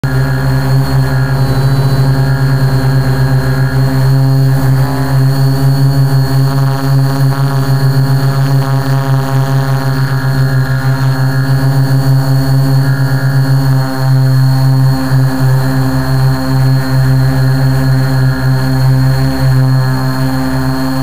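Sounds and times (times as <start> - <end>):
high-pitched whine: 0.0 - 21.0
quadcopter motors droning: 0.0 - 21.0.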